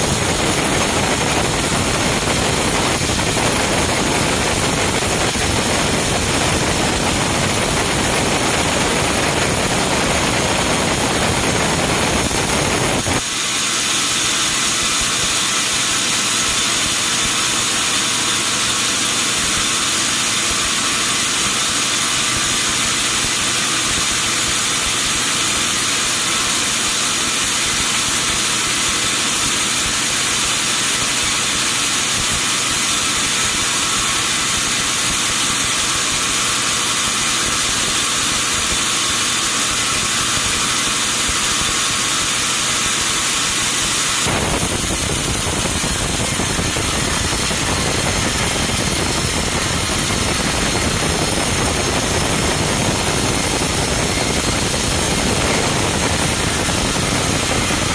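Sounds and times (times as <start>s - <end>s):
sawmill machinery hissing: 0.0s - 57.9s.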